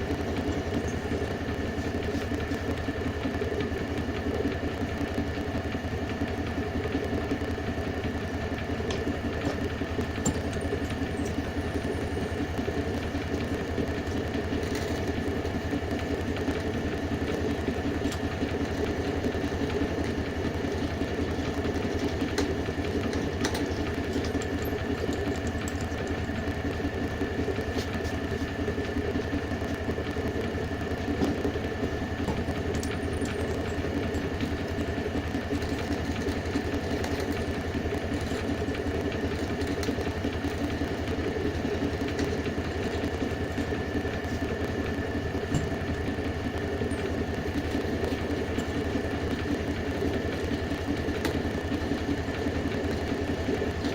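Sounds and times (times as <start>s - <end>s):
machine motor humming: 0.0s - 53.9s.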